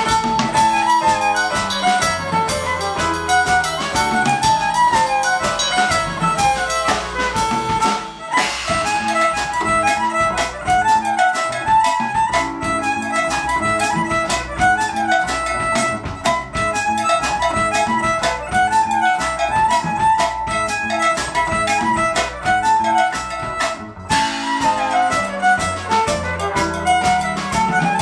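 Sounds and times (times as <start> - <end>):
drum kit beat: 0.0 - 28.0
piano: 0.0 - 28.0
upright bass: 0.0 - 28.0
violin playing fast jig: 0.0 - 28.0.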